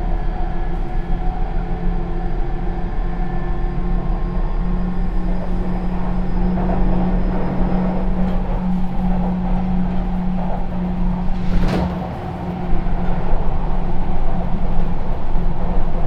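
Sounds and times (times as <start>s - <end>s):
rumble of wheels on rail: 0.0s - 16.0s
train constant hum: 0.0s - 16.0s.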